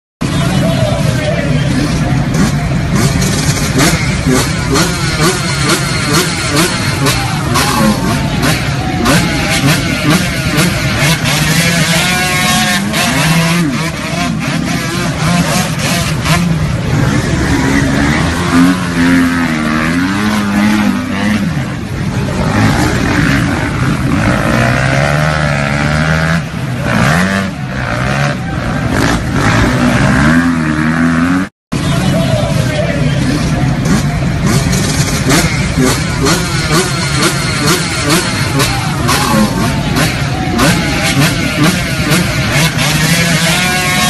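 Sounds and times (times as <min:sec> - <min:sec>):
dirt bike engines revving: 0:00.2 - 0:44.0.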